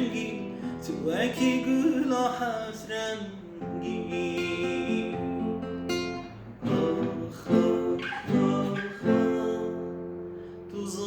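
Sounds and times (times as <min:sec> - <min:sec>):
plucked string instrument strumming: 0:00.0 - 0:11.0.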